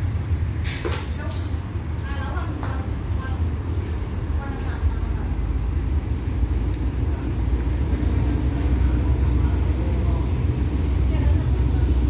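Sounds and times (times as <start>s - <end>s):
faint steady hum: 0.0s - 12.0s
locomotive engine rumble: 0.0s - 12.0s.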